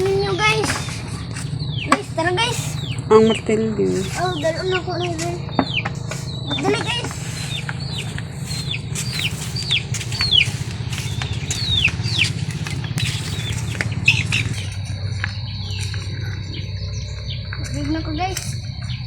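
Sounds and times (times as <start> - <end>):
birds chirping: 0.0 - 19.0
sharp clicks: 0.0 - 19.0
steady high tone: 0.0 - 19.0
steady low hum: 0.0 - 19.0.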